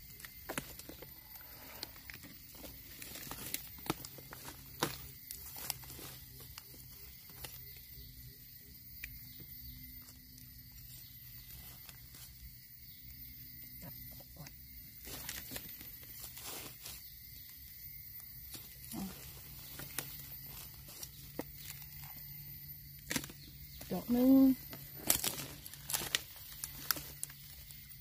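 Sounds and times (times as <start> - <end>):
faint forest hiss: 0.0 - 14.0, 14.6 - 28.0
dry leaves and bamboo rustling: 0.0 - 28.0.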